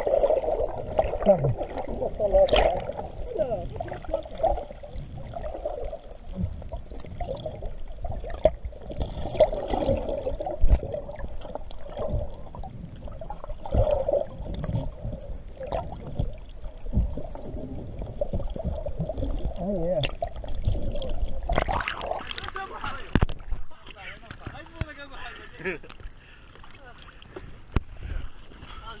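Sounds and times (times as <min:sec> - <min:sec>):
muffled water sloshing and splashing: 0:00.0 - 0:29.0.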